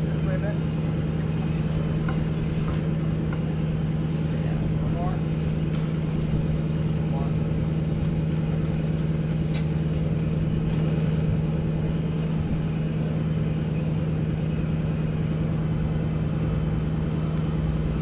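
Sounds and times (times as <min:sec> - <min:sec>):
lifting machine engine droning: 0:00.0 - 0:18.0.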